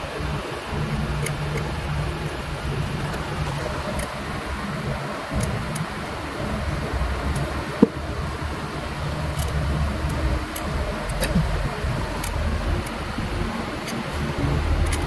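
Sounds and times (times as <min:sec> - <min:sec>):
low hum with rushing noise: 0:00.0 - 0:15.0.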